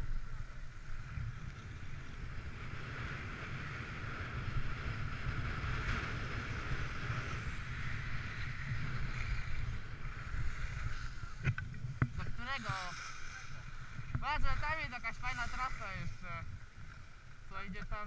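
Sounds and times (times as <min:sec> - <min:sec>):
wind rumbling on microphone: 0:00.0 - 0:18.0
skis sliding over snow: 0:00.2 - 0:18.0.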